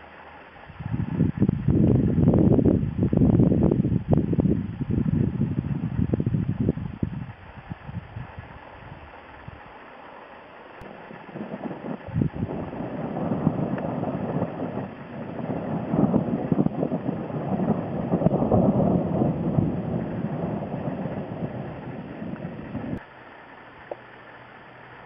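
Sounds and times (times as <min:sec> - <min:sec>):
wind buffeting microphone: 0:00.6 - 0:09.8, 0:10.8 - 0:23.0.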